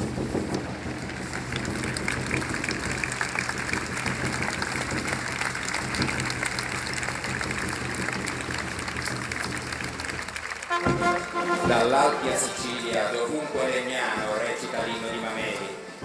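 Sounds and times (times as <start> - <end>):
large crowd applauding: 0.0 - 15.7.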